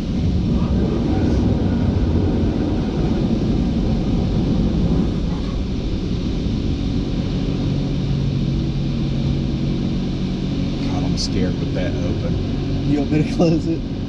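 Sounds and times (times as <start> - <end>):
car wash machinery rumbling: 0.0 - 14.0.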